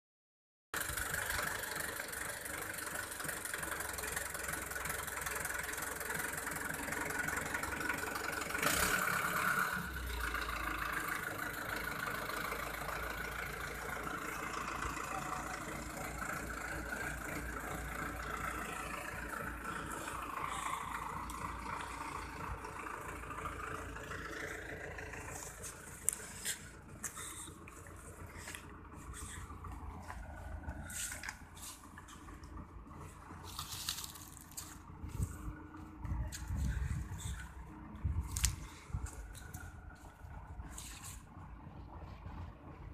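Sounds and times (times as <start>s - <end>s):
diesel tractor engine running: 0.7s - 42.9s.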